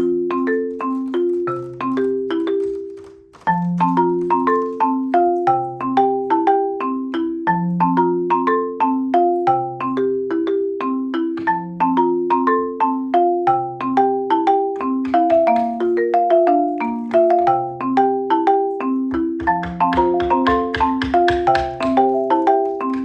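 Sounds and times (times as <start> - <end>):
marimba-like tune: 0.0 - 23.0.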